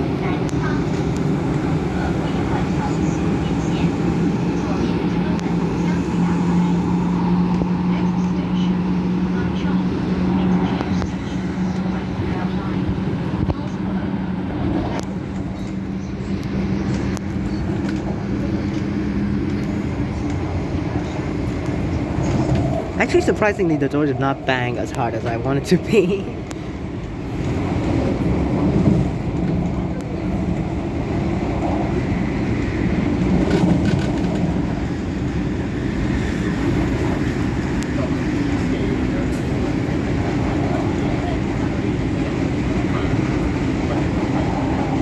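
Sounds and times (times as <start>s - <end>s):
train interior rumble: 0.0s - 45.0s.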